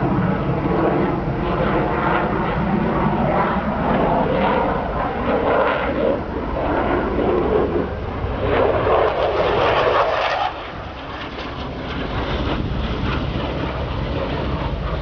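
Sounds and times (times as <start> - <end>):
aircraft engine rushing: 0.0 - 15.0.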